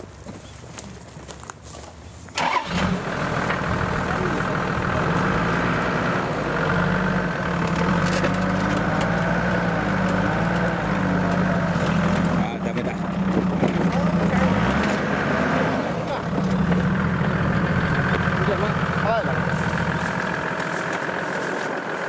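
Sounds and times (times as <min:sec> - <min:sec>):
car engine starting and running: 0:02.3 - 0:22.0.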